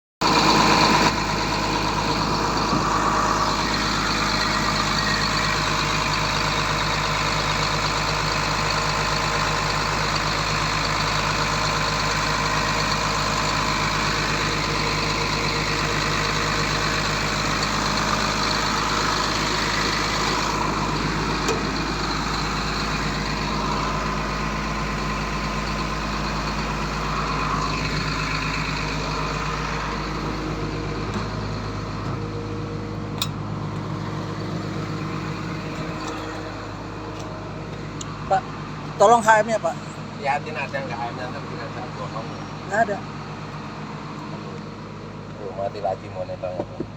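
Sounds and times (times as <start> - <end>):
excavator diesel engine running: 0.2 - 46.9.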